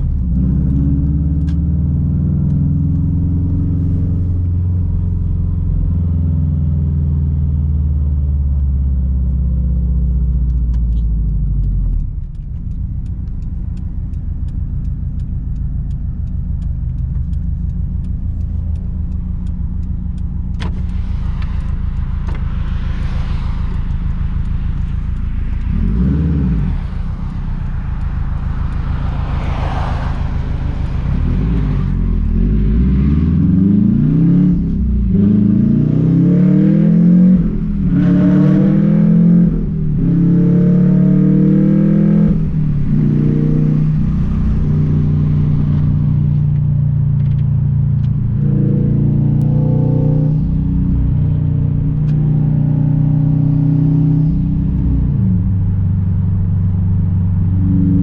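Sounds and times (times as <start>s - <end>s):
car engine rumbling while driving: 0.0s - 58.0s.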